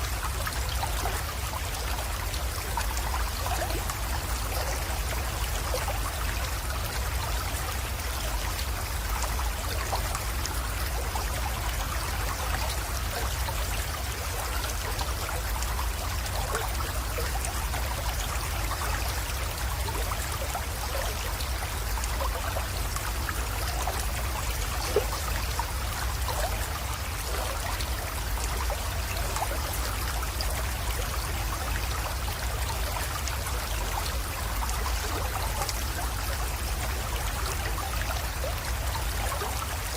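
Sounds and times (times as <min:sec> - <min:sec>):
creek trickling and splashing: 0:00.0 - 0:39.9.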